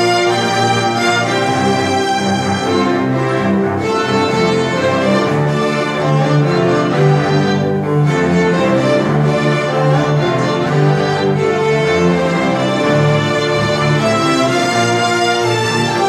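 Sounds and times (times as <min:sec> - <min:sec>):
string orchestra playing: 0:00.0 - 0:16.0.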